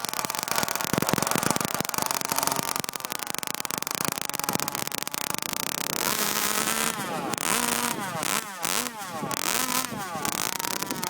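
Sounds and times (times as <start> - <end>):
two-stroke engine at high revs: 0.0 - 11.0.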